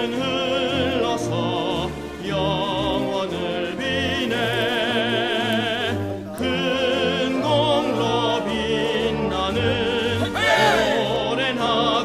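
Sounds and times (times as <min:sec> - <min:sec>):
operatic singing: 0:00.0 - 0:12.0
orchestral accompaniment: 0:00.0 - 0:12.0.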